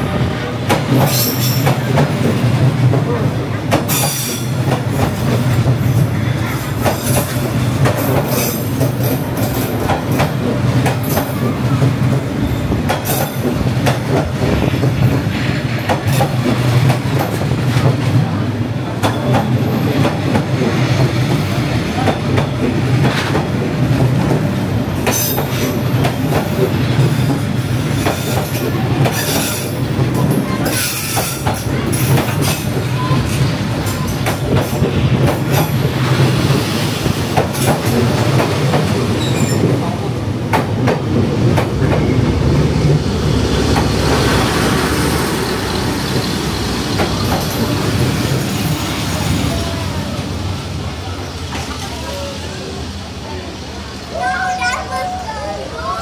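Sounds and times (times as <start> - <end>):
diesel train engine drone: 0.0 - 30.8, 31.4 - 56.0
train wheels clacking on rails: 0.0 - 53.0.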